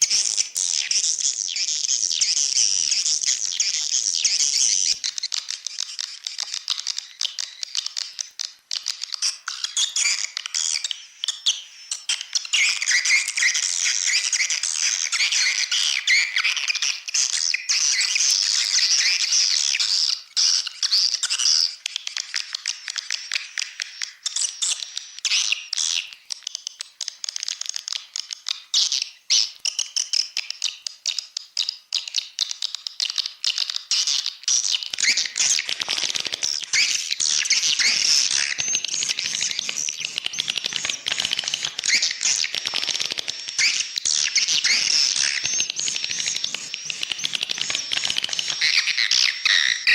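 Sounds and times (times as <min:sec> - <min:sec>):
swiftlets chirping and twittering: 0:00.0 - 0:26.1, 0:32.5 - 0:49.9.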